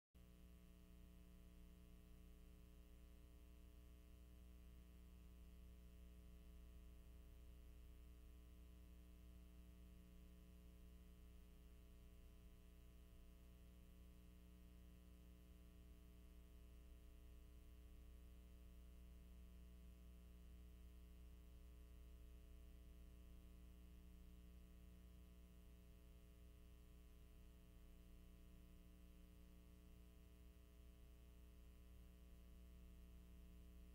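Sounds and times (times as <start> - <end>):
faint electrical hum with hiss: 0.2 - 33.9.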